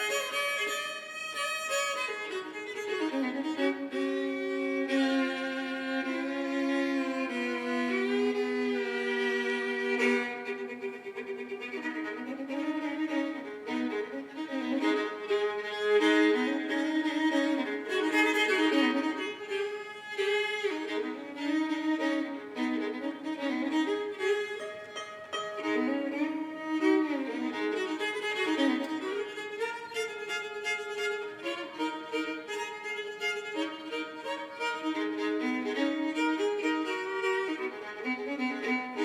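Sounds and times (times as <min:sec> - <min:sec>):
solo fiddle fast melody: 0:00.0 - 0:39.0.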